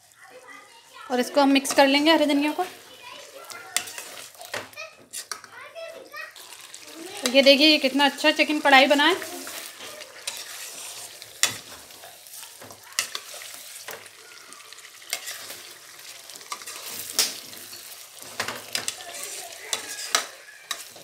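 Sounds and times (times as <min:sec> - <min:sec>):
food sizzling in a pan: 0:00.0 - 0:21.0
metal spoon scraping pan: 0:01.2 - 0:05.6, 0:07.2 - 0:14.1, 0:15.0 - 0:21.0.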